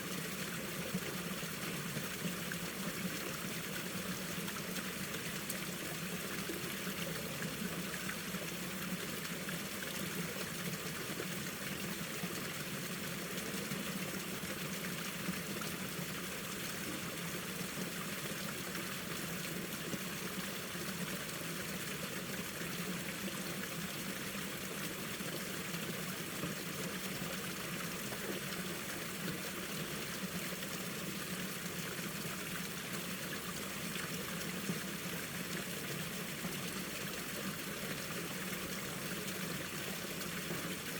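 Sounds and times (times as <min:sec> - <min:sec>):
stream water flowing over rocks: 0:00.0 - 0:40.9.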